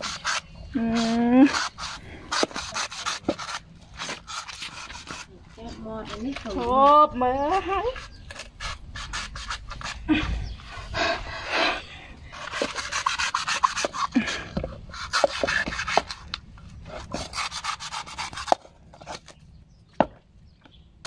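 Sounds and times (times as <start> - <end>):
cleaver rasping coconut husk: 0.0 - 19.4.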